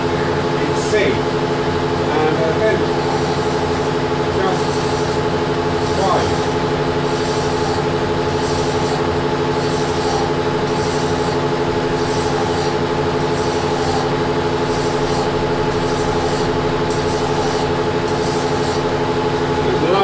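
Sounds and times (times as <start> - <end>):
lathe humming: 0.0 - 20.0
hand file rasping on workpiece: 2.4 - 20.0.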